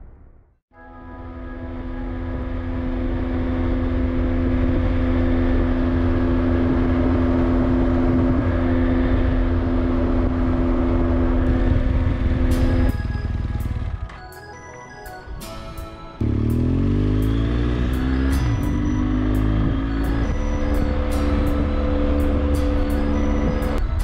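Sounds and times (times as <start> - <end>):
motorcycle engine drone: 0.8 - 24.0
wind rumble: 1.2 - 14.1, 16.2 - 24.0.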